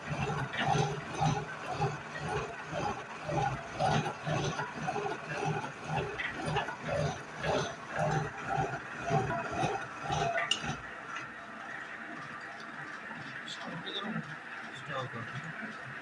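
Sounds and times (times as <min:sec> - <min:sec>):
milling machine grinding: 0:00.0 - 0:16.0.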